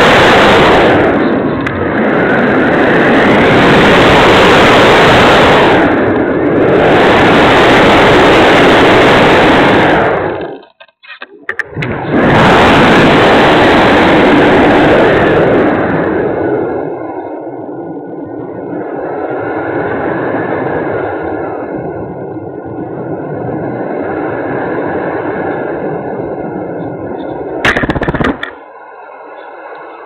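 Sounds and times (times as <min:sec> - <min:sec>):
wind rush: 0:00.0 - 0:29.7.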